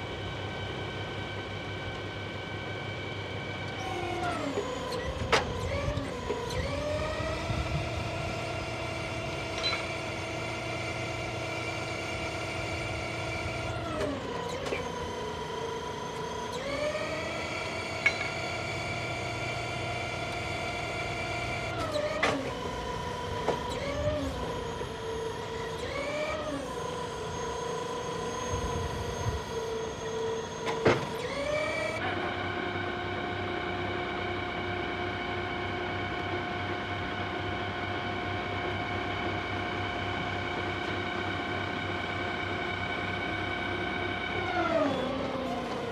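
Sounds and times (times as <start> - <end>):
hydraulic crane whining: 0.0 - 45.9.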